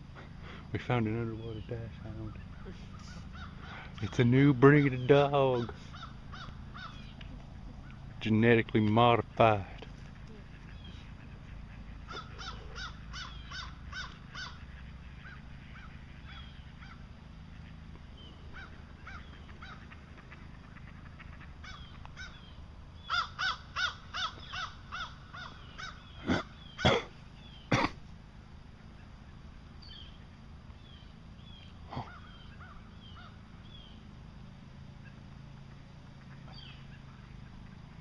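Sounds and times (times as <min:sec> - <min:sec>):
bird calling: 0:00.0 - 0:38.0.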